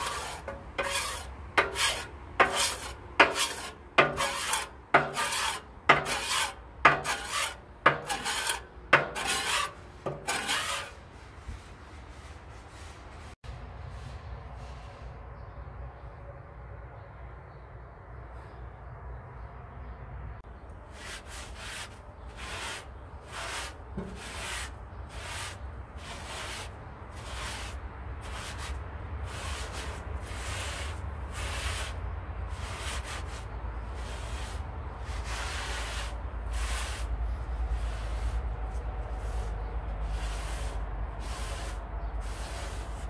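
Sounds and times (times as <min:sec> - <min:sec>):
rubbing or scrubbing strokes: 0:00.0 - 0:14.9, 0:20.9 - 0:43.0.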